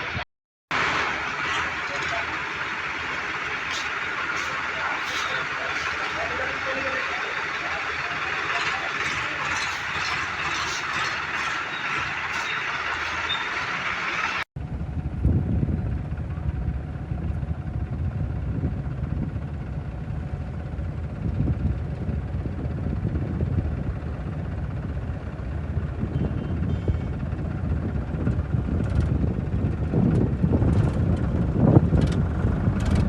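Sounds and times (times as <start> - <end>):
tractor diesel engine running: 0.0 - 14.5, 15.6 - 33.0.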